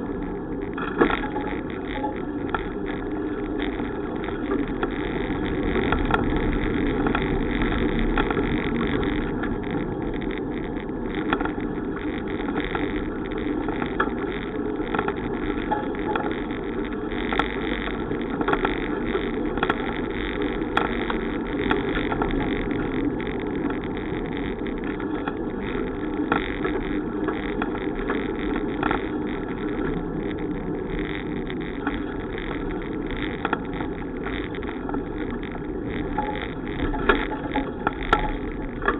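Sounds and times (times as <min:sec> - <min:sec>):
bicycle tyres rolling on road: 0:00.0 - 0:38.9
wind across microphone: 0:00.0 - 0:38.9.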